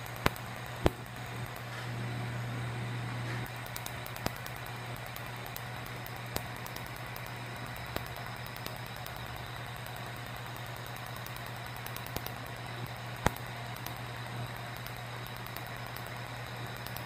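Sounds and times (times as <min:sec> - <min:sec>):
laser clicks and snaps: 0:00.0 - 0:01.7, 0:03.4 - 0:17.0
laser unit low hum: 0:00.0 - 0:17.0.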